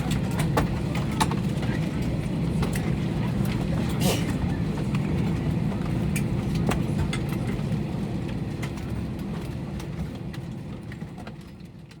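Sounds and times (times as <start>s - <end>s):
airliner cabin engine rumble: 0.0s - 11.9s.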